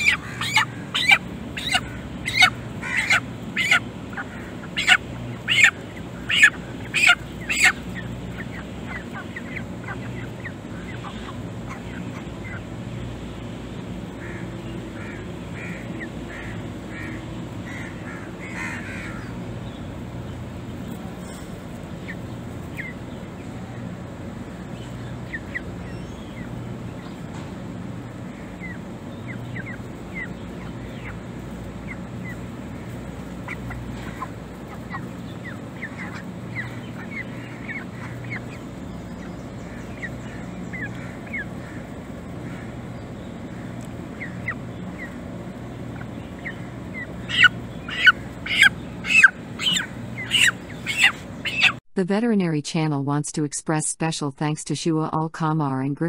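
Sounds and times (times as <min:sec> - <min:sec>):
loud repeated bird calls: 0:00.0 - 0:51.8
steady low hum: 0:00.0 - 0:53.2.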